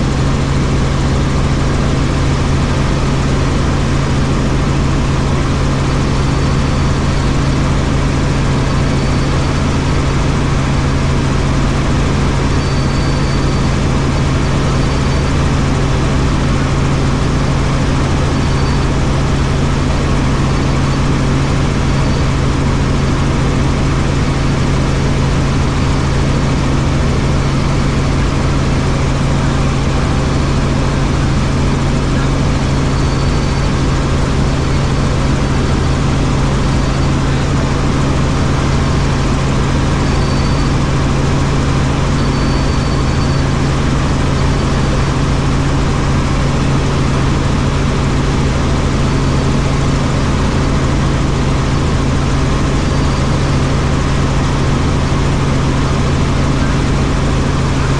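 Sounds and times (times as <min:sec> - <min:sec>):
faint high whines: 0:00.0 - 0:57.9
helicopter rotor drone: 0:00.0 - 0:57.9.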